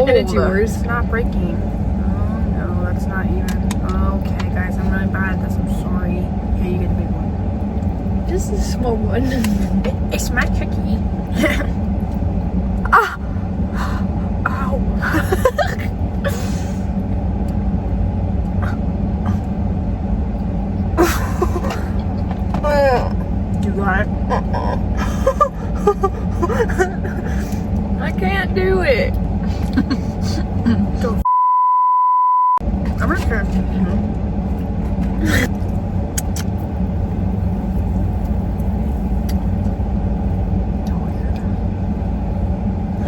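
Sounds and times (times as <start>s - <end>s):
car engine rumble in cabin: 0.0s - 31.3s, 32.6s - 43.0s.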